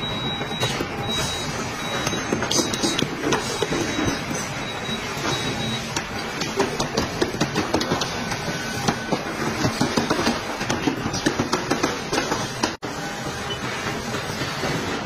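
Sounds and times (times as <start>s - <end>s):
factory background noise: 0.0s - 15.0s.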